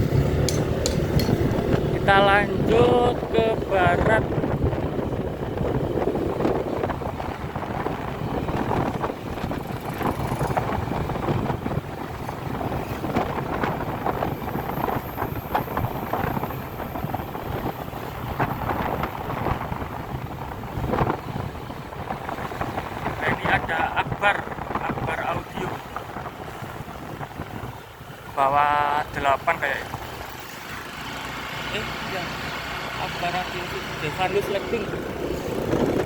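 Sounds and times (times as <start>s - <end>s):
vehicle running: 0.0s - 36.0s
wind buffeting microphone: 0.0s - 36.0s.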